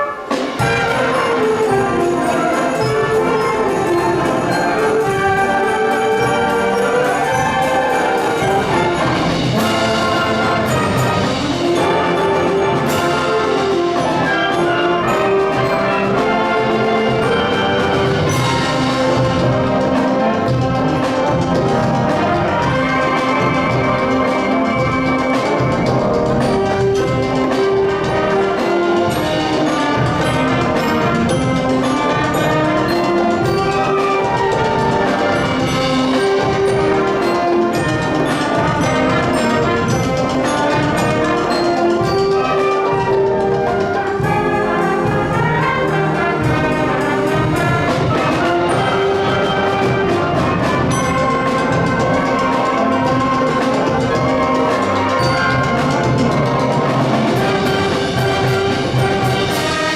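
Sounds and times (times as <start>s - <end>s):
concert band playing: 0.0s - 59.9s.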